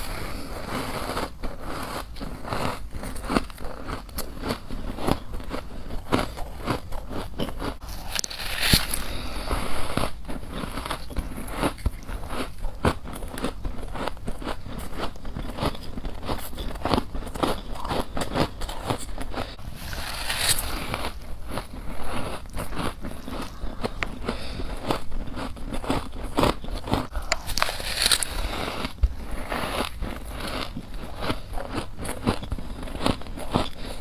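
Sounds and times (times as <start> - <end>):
person crunching frost: 0.0 - 34.0.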